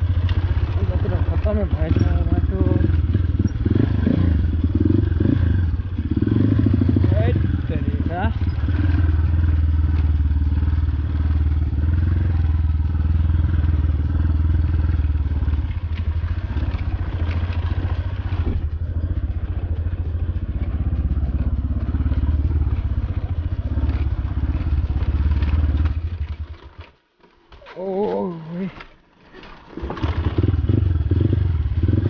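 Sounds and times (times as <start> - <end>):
motorcycle engine running: 0.0 - 27.0, 29.7 - 32.0.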